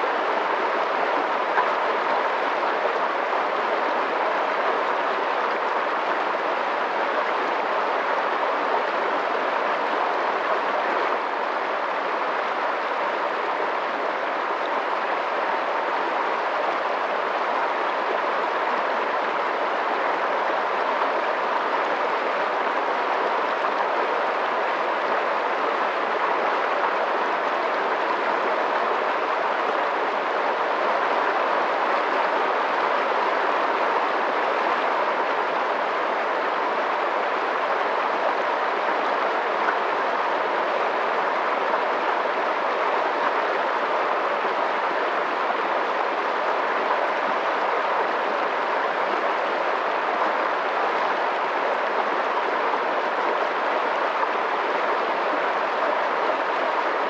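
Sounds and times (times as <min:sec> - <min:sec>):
water rushing: 0:00.0 - 0:57.0.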